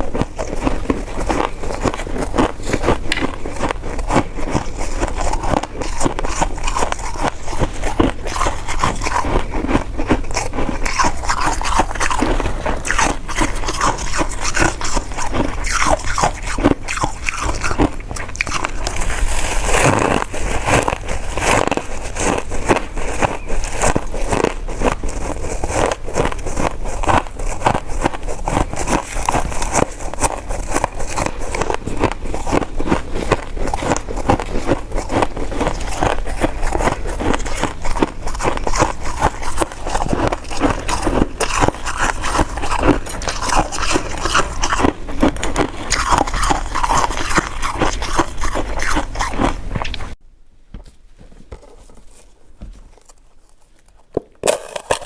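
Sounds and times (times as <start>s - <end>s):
close chewing and mouth clicks: 0.0s - 50.2s
faint room noise: 0.0s - 55.0s.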